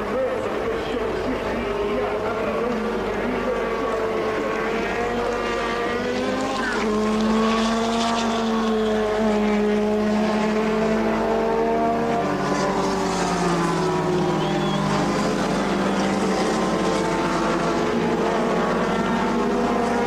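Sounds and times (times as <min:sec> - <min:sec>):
racing engines running at low revs: 0:00.0 - 0:20.0.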